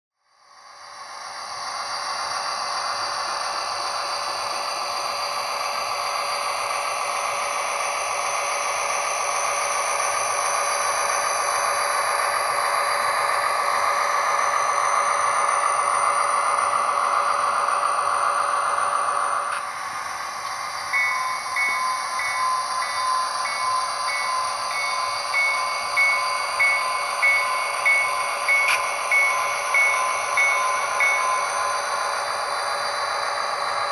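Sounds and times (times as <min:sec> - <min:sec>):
model train running on track: 0:00.2 - 0:33.9.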